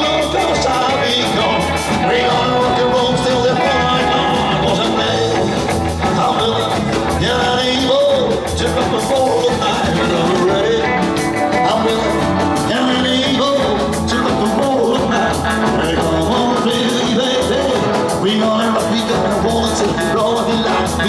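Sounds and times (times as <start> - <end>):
rock band playing live: 0.0 - 21.0
steady drum beat: 0.0 - 21.0.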